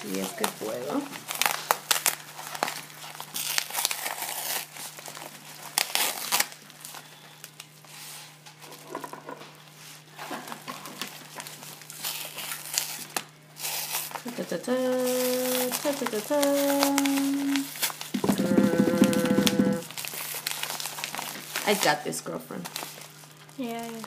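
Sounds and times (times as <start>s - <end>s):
bubble mailer crinkling: 0.0s - 7.8s, 10.5s - 24.0s.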